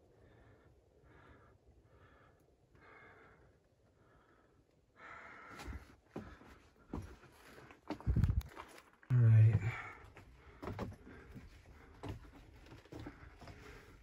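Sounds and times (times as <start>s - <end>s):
faint breathing: 0.0s - 8.1s, 9.5s - 14.0s.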